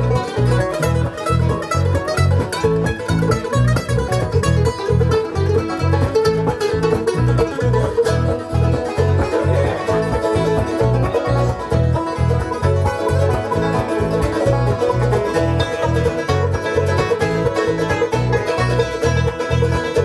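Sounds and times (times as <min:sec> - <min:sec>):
acoustic guitar: 0:00.0 - 0:20.0
banjo: 0:00.0 - 0:20.0
bass: 0:00.0 - 0:20.0
mandolin: 0:00.0 - 0:20.0.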